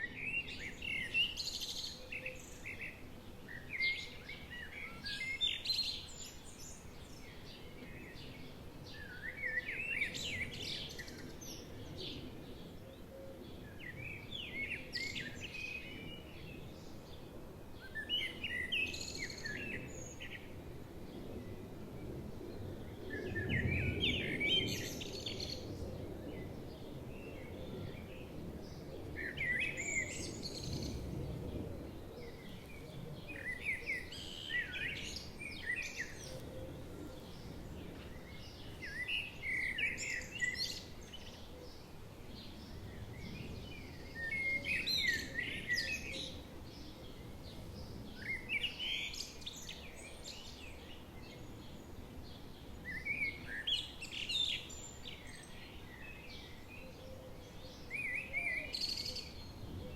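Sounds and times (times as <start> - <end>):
songbirds warbling: 0.0 - 59.9.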